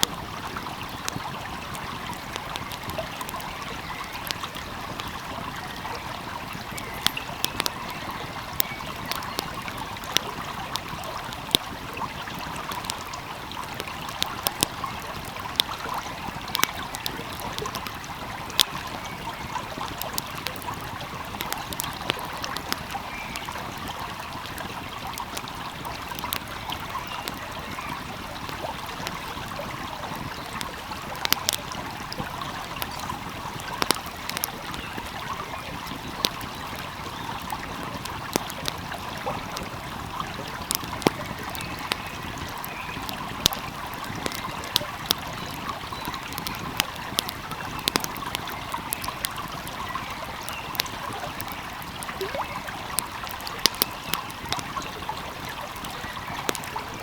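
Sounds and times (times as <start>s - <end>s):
stream flowing: 0.0s - 57.0s
wood fire crackling: 0.0s - 57.0s.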